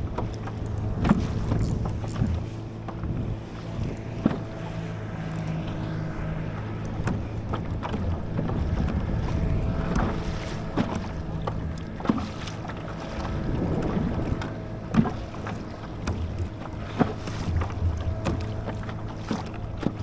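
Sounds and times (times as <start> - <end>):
water sloshing against kayak hull: 0.0 - 20.0
wind on microphone: 0.0 - 20.0.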